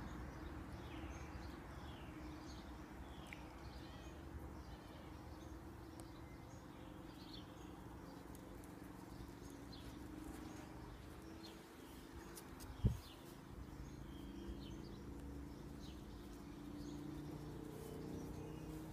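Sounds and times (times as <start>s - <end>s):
small birds chirping faintly: 0.0s - 18.9s.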